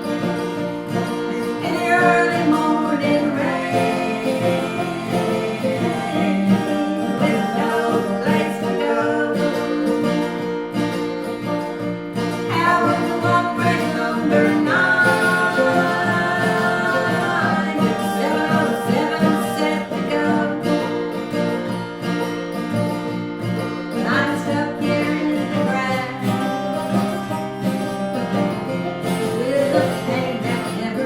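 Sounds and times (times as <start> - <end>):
acoustic guitar: 0.0 - 31.0
person singing folk song: 0.0 - 31.0.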